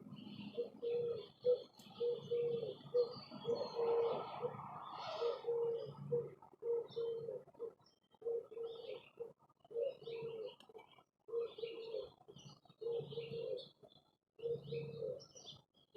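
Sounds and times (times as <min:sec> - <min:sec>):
dove cooing: 0:00.0 - 0:15.5
small birds chirping: 0:00.0 - 0:15.9.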